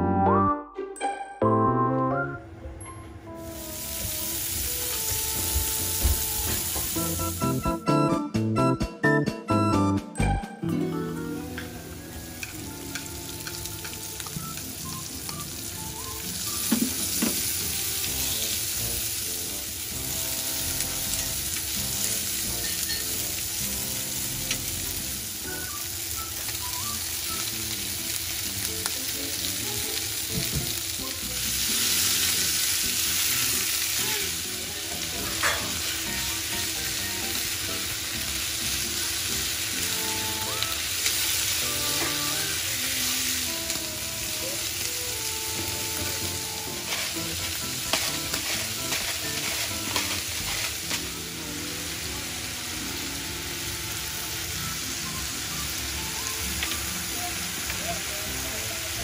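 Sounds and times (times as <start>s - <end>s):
sizzling in a frying pan: 3.4s - 7.7s, 11.2s - 59.0s.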